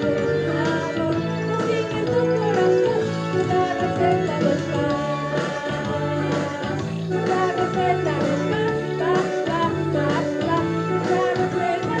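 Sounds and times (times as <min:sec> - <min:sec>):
song with plucked strings: 0:00.0 - 0:12.0.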